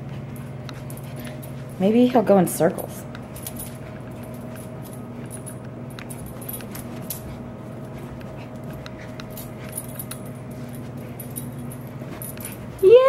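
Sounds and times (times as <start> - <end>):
puppy scampering on carpet: 0.0 - 1.9, 3.1 - 13.0
steady low hum: 0.0 - 13.0
light clicks and jingles: 0.3 - 13.0.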